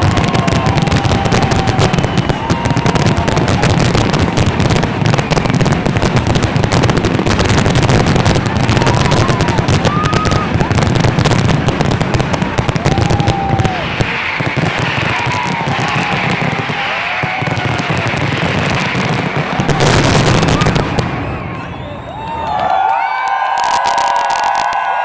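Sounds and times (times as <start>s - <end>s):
fireworks crackling bangs: 0.0s - 25.0s.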